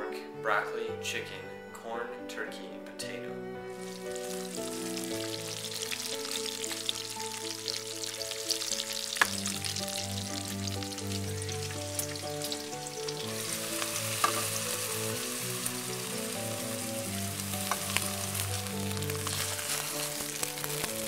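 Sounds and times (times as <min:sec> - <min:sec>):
background music with held notes: 0:00.0 - 0:21.0
bacon sizzling in a frying pan: 0:03.7 - 0:21.0.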